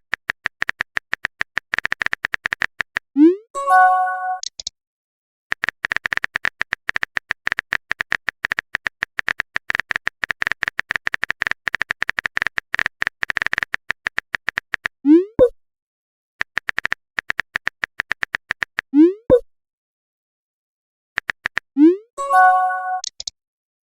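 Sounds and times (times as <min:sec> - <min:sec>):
keyboard typing clicks with beeps: 0:00.0 - 0:04.7, 0:05.5 - 0:15.6, 0:16.4 - 0:19.5, 0:21.2 - 0:23.4.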